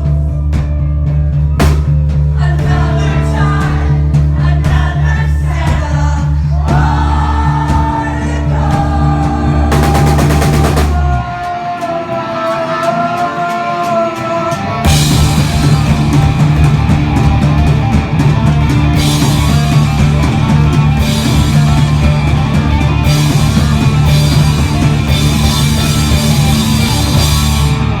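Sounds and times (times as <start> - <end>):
rock band with drums: 0.0 - 28.0.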